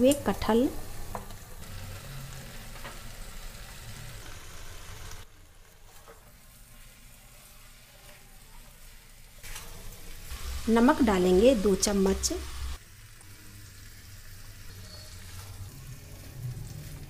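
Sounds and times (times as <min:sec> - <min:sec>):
faint sizzling in oil: 0:00.0 - 0:17.0.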